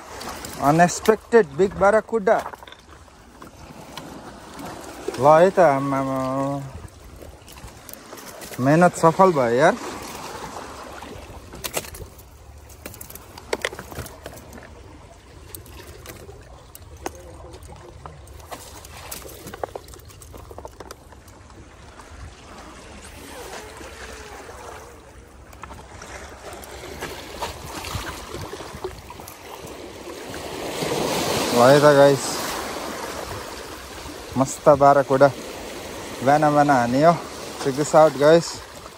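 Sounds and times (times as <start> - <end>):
sea water washing among rocks: 0.0 - 38.9.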